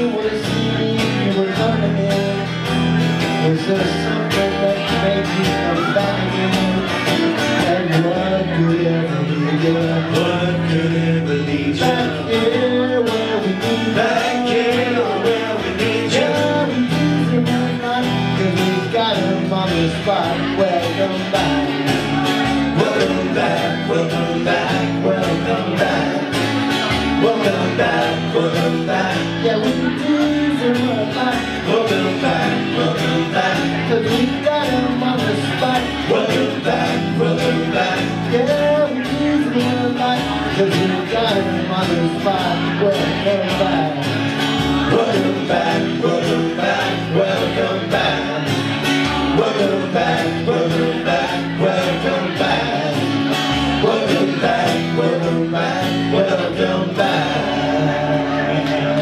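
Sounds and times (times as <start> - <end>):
acoustic guitars strumming: 0.0 - 59.0.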